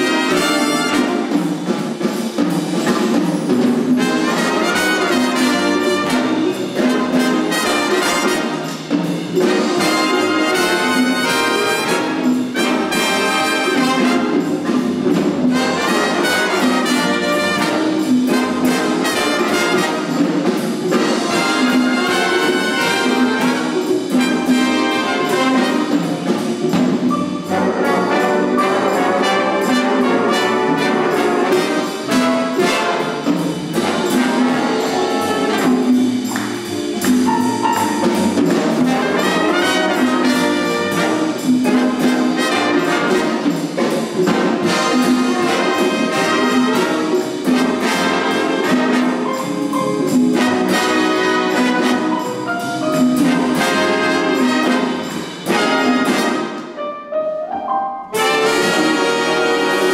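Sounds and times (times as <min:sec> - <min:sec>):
big band playing swing: 0:00.0 - 0:59.9.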